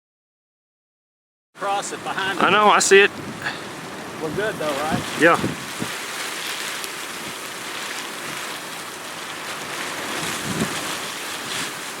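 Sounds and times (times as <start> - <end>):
rain and wind on a car: 1.6 - 12.0.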